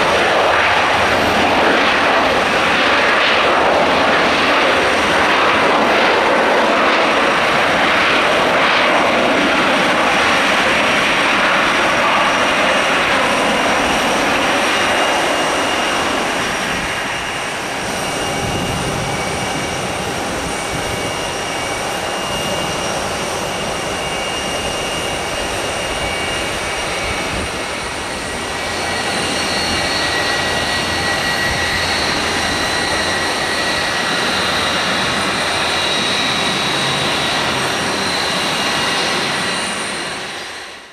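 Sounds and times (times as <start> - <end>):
jet engines roaring: 0.0 - 40.9
jet whine with whistling tones: 0.0 - 40.9.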